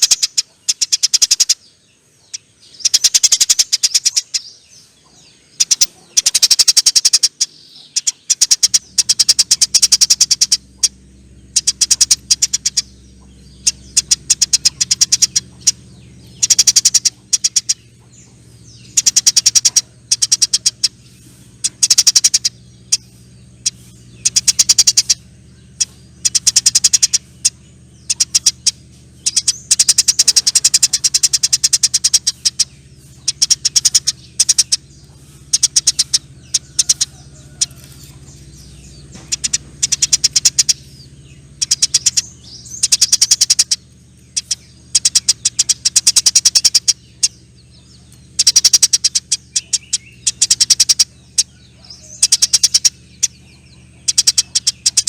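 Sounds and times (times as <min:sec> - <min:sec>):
sparrows chattering: 0:00.0 - 0:55.0.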